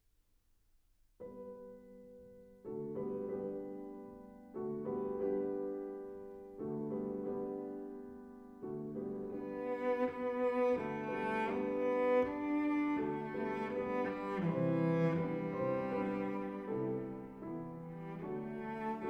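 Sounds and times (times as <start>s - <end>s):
slow piano chords: 1.2s - 19.0s.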